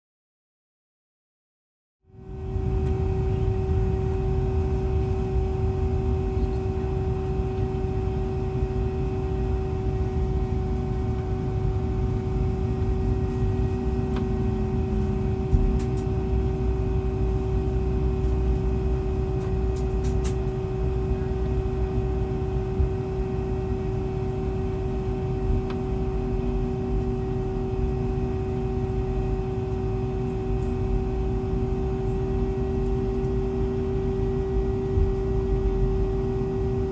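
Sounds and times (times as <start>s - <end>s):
airliner cabin hum: 2.1s - 36.9s.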